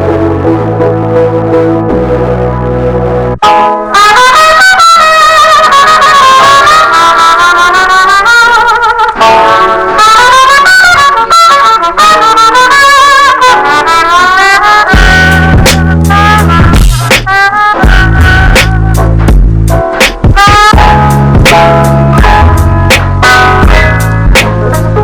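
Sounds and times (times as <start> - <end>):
melodic music with vibrato lead: 0.0 - 7.3, 9.2 - 25.0.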